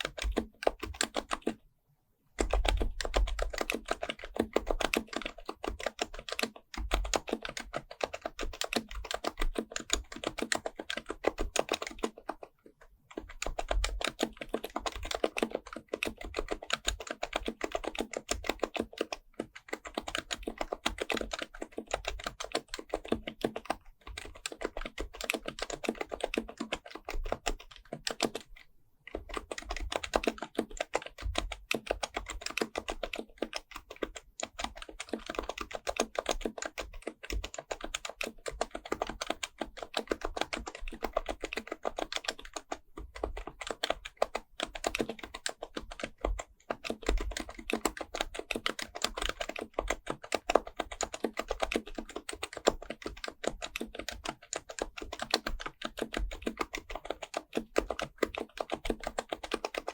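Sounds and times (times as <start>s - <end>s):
fast muted keyboard typing: 0.0s - 1.6s, 2.4s - 59.9s.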